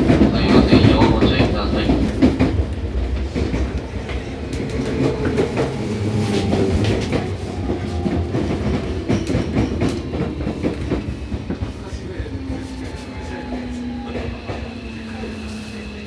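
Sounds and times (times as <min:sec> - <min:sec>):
train car rumble: 0:00.0 - 0:16.0.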